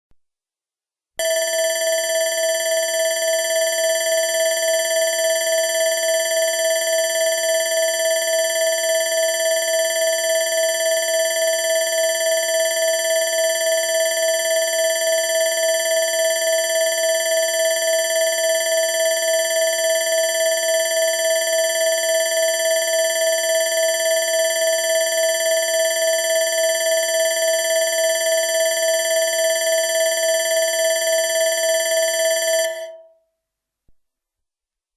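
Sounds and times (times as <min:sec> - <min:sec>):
electronic alarm bell ringing: 0:01.2 - 0:33.0.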